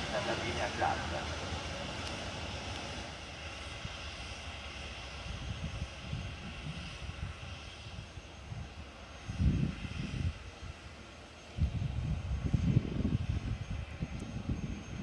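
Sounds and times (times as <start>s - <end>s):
electric train rumble and hiss: 0.0s - 15.0s.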